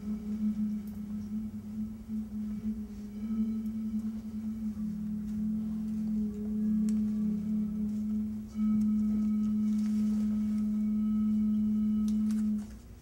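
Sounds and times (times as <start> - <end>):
lower tone: 0.0 - 12.9
steady low pitched tone: 0.0 - 13.0.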